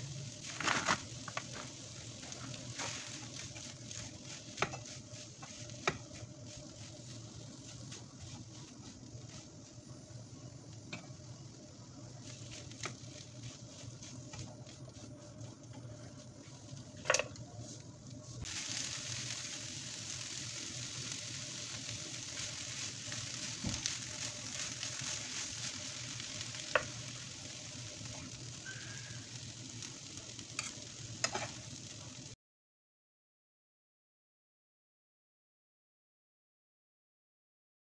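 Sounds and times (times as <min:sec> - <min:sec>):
vegetables sizzling in a frying pan: 0:00.0 - 0:32.4.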